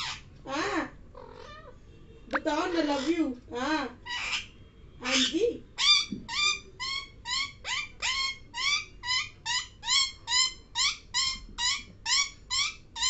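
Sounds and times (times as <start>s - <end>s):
parrot squawking: 0.0s - 1.7s, 2.5s - 13.0s.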